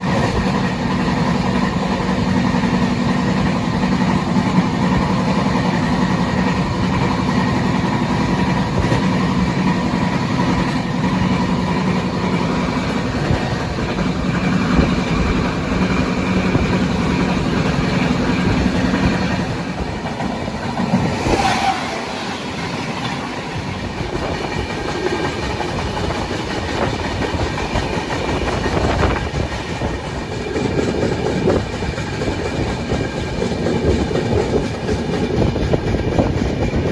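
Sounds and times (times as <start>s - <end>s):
train wheels clicking over track: 0.0s - 36.9s.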